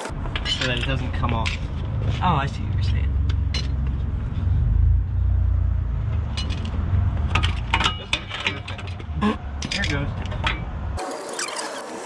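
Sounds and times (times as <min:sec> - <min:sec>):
low rumble: 0:00.1 - 0:11.0.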